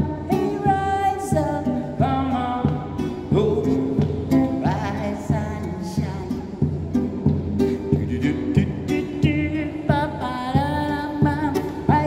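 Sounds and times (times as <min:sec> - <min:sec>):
classical guitar strumming: 0:00.0 - 0:12.0
man singing: 0:00.0 - 0:12.0.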